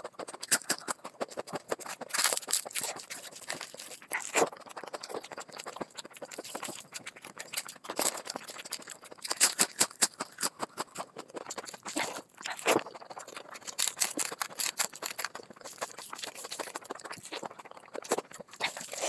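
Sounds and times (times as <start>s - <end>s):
fingers squishing rice: 0.0s - 19.0s
wet chewing and lip-smacking: 0.0s - 19.0s.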